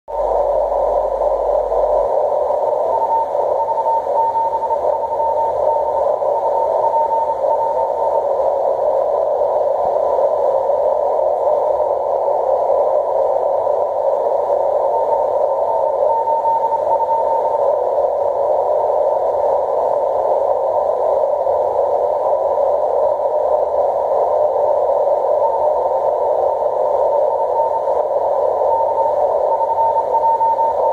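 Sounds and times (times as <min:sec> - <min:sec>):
radio band noise hiss: 0:00.1 - 0:30.9.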